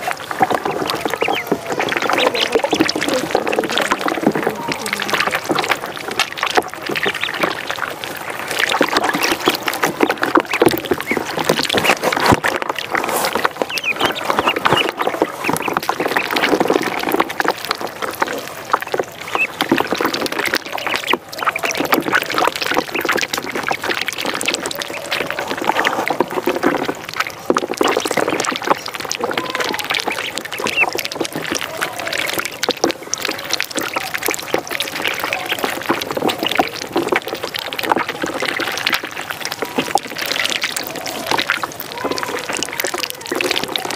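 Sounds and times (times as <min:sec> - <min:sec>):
ducklings peeping: 0:00.0 - 0:43.9
splashing in shallow water: 0:00.0 - 0:43.9.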